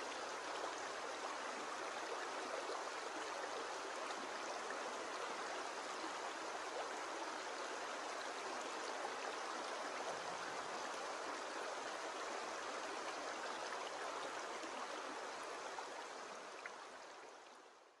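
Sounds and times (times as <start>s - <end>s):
stream babbling over stones: 0.0s - 17.5s.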